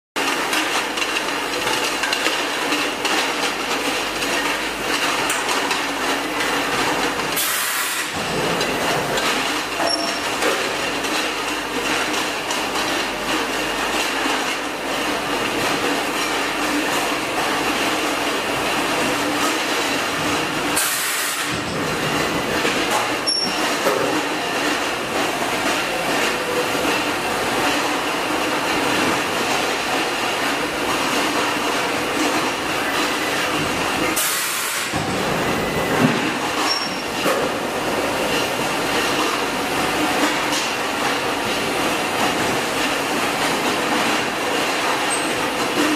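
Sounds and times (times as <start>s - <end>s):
steady machine noise: 0.2s - 45.9s.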